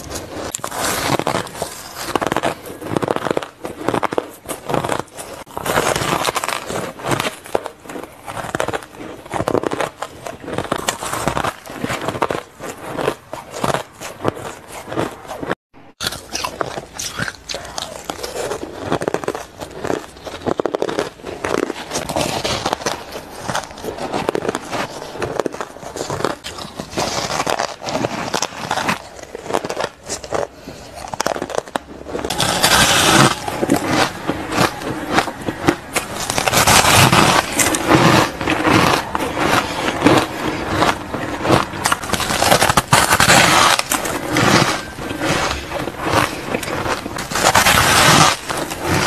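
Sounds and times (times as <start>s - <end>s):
shaved ice crunching: 0.0s - 49.0s.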